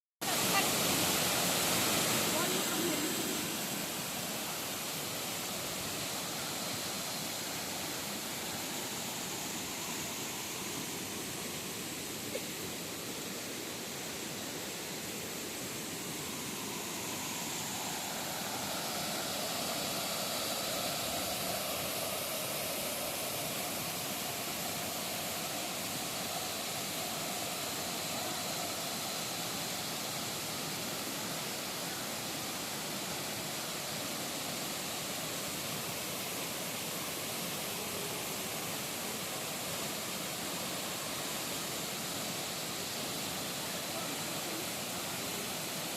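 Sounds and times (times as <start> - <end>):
waterfall roaring: 0.2 - 45.9.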